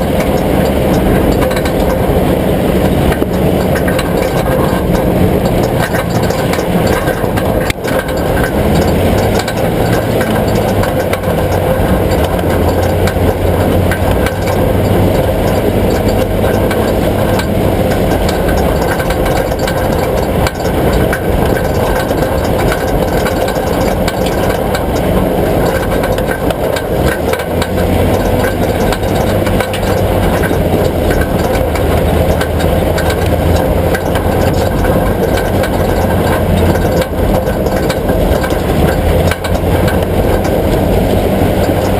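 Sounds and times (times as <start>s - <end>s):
vehicle engine humming: 0.0s - 41.9s.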